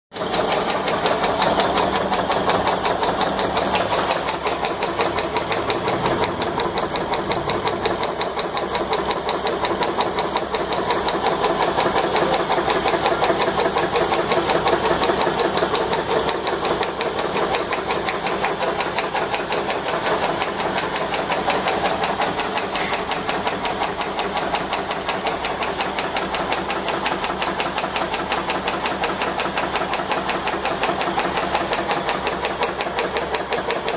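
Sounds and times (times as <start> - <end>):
pressure washer pump clattering: 0.2 - 33.9.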